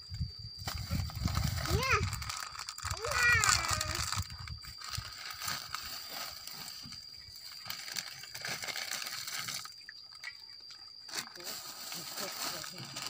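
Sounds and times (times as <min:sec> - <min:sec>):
plastic wrappers crinkling: 0:00.6 - 0:13.0.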